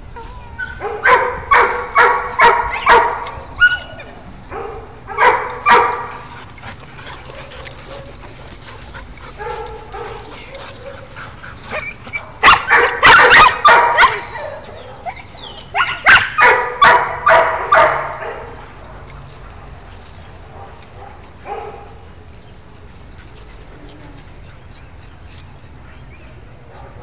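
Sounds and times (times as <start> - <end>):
dogs barking: 0.6 - 22.1, 24.0 - 27.0.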